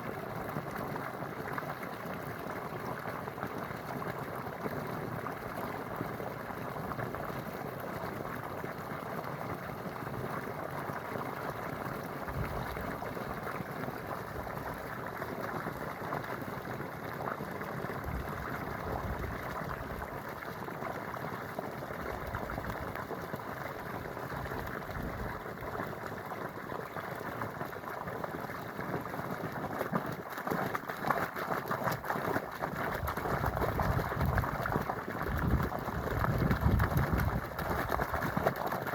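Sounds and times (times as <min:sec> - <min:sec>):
running water gurgling: 0:00.0 - 0:38.9.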